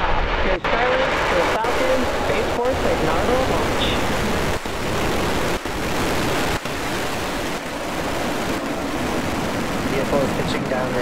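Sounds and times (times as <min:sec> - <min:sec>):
rocket engines roaring: 0:00.0 - 0:11.0.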